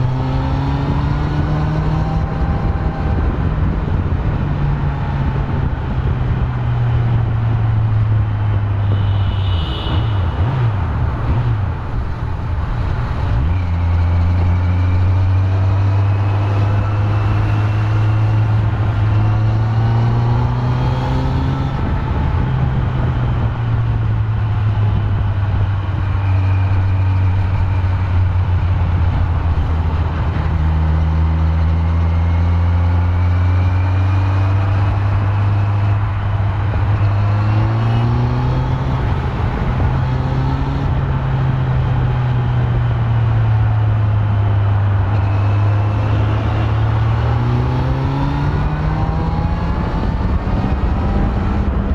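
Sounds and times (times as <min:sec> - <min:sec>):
motorcycle engine accelerating: 0:00.0 - 0:08.9, 0:09.5 - 0:51.9.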